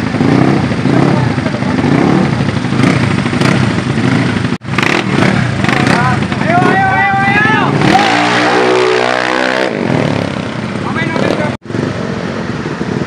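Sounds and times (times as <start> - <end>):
scooter engines running loudly: 0.0 - 13.0.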